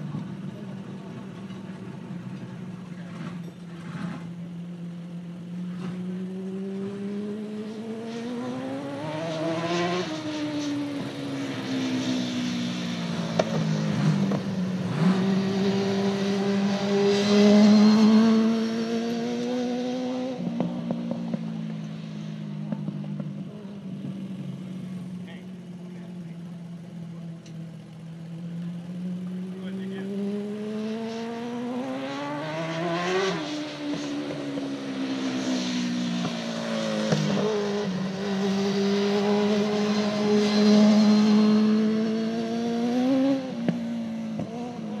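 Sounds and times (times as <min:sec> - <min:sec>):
race car engine: 0:00.0 - 0:45.0.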